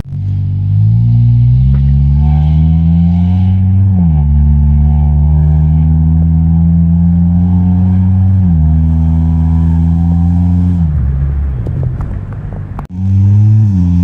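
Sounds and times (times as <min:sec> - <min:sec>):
car engine running loudly: 0:00.0 - 0:14.0.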